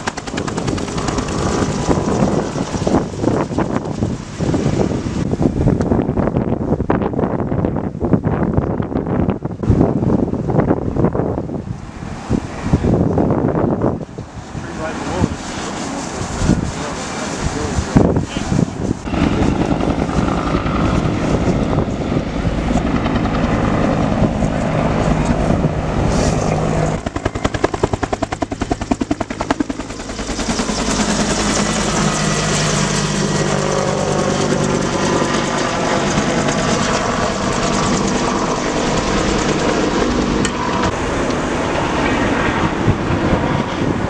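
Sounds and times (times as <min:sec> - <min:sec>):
helicopter rotor blades chopping: 0:00.0 - 0:11.7, 0:12.8 - 0:44.0
helicopter engine droning: 0:00.0 - 0:44.0.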